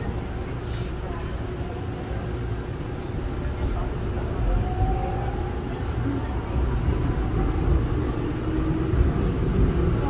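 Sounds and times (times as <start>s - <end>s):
subway train low rumble: 0.0s - 10.0s.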